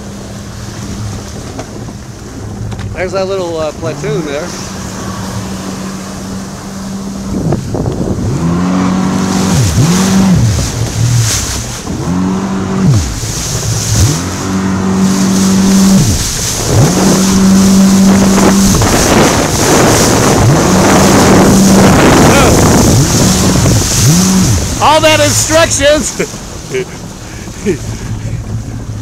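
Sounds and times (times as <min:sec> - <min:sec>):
jet ski engine at speed: 0:00.0 - 0:29.0
wind buffeting microphone: 0:00.0 - 0:29.0.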